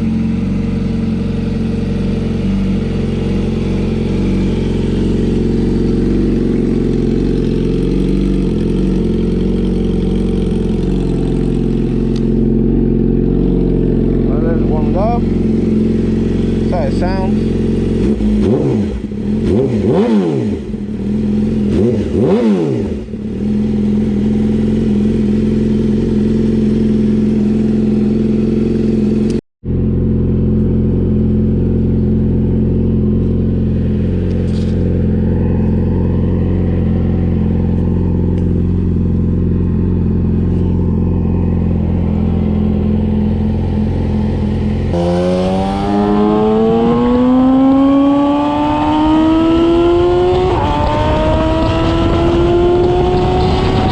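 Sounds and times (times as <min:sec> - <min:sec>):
motorcycle accelerating away: 0:00.0 - 0:53.9
motorcycle engine revving and idling: 0:00.0 - 0:53.9.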